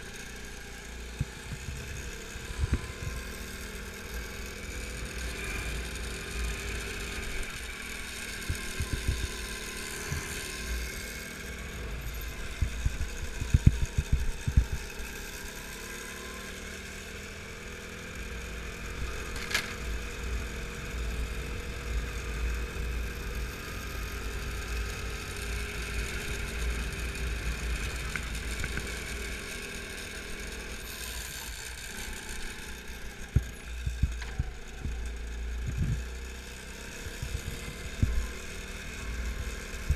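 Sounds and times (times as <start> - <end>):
go-kart engine: 0.0 - 39.9.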